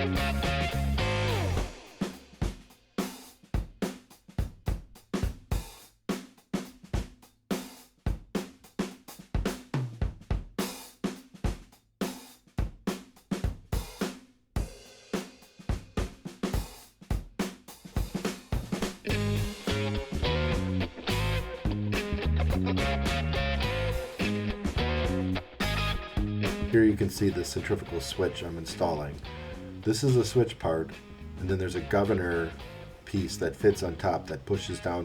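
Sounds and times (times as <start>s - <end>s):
drum kit beat: 0.0s - 35.0s.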